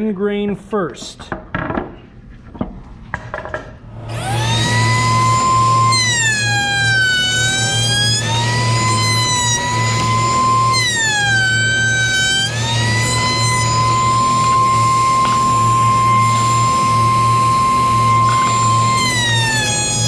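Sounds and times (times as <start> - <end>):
router whining: 3.9 - 20.0.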